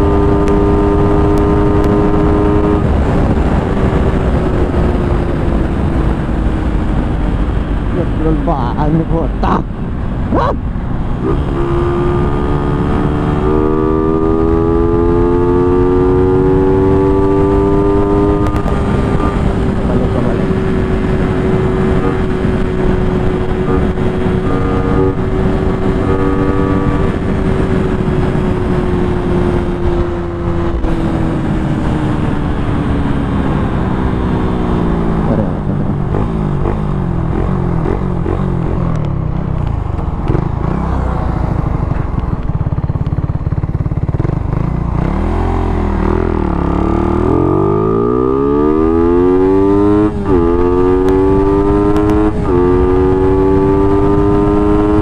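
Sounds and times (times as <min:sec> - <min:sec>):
motorcycle engine revving high: 0:00.0 - 0:55.0
wind rush on microphone: 0:00.0 - 0:55.0.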